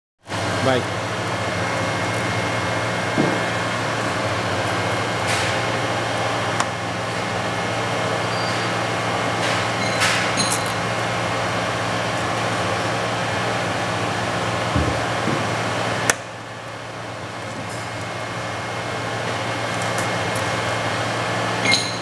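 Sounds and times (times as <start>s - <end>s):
dough rounder humming: 0.2s - 22.0s.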